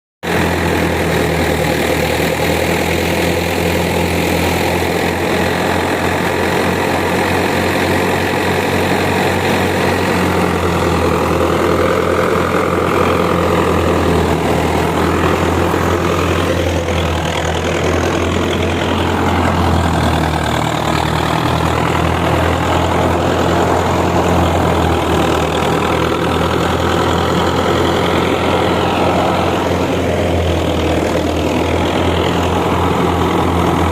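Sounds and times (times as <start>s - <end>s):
tractor diesel engine running: 0.2s - 33.9s.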